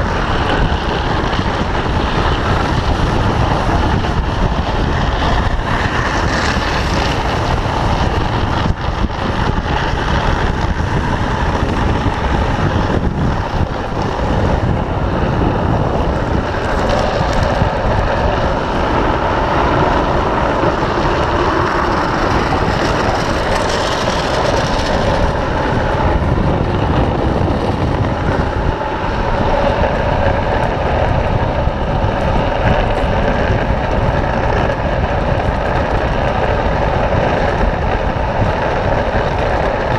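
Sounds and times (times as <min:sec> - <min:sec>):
wheels scraping on asphalt: 0:00.0 - 0:39.9.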